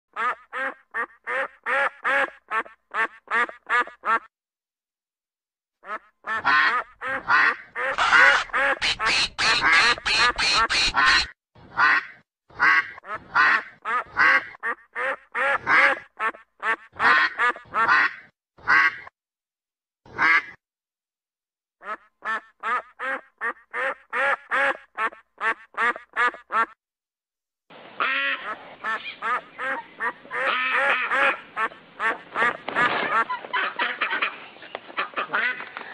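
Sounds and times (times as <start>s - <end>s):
ducks quacking: 0.2s - 4.3s, 5.8s - 19.1s, 21.8s - 26.8s, 28.0s - 35.9s.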